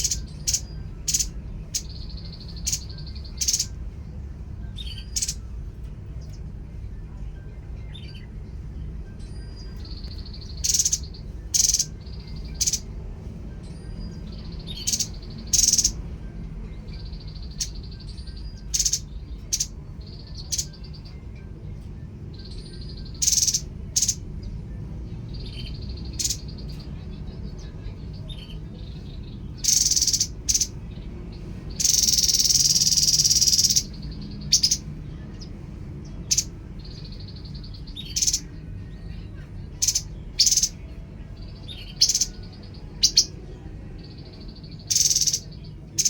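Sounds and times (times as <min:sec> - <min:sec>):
bird calling and trilling: 0:00.0 - 0:06.5, 0:07.8 - 0:46.0
low steady hum: 0:00.0 - 0:46.0.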